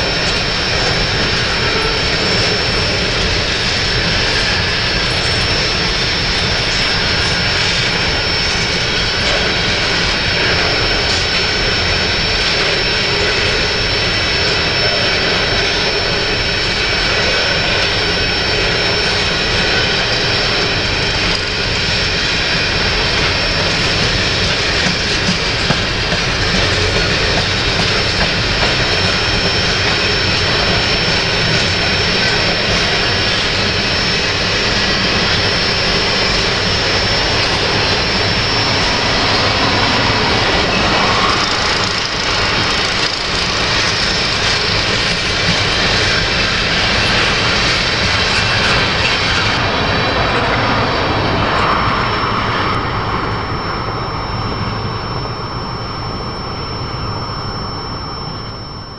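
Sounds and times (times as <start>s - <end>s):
steel wheels on rail: 0.0s - 52.8s
thin high whine: 0.0s - 58.9s.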